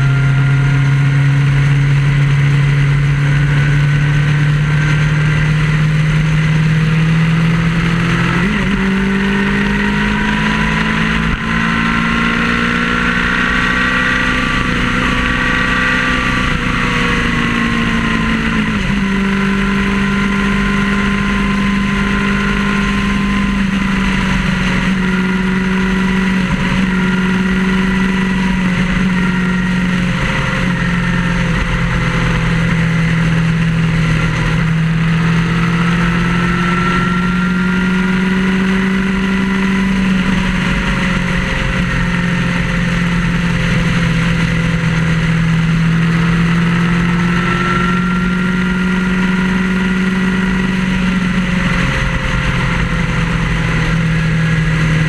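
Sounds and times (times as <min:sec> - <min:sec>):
road and wind noise: 0:00.0 - 0:55.0
vehicle engine droning: 0:00.0 - 0:55.0.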